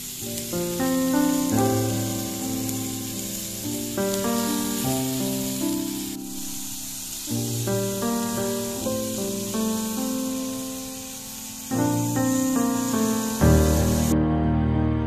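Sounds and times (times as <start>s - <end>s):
chicken sizzling on grill pan: 0.0s - 14.1s
slow chord music: 0.0s - 15.0s.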